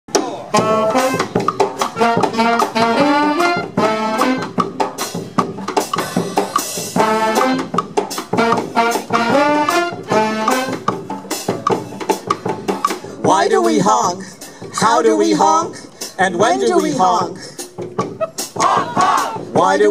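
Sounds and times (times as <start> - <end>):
sharp percussion hits: 0.1 - 19.6
brass band playing: 0.3 - 19.6.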